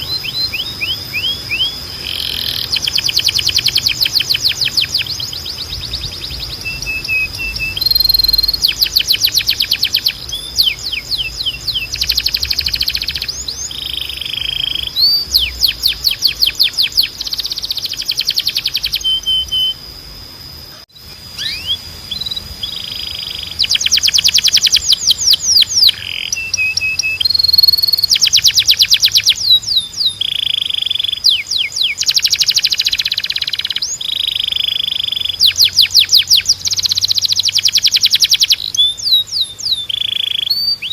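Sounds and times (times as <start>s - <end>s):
steady high-pitched tone: 0.0s - 38.7s
canary singing trills: 0.0s - 40.9s.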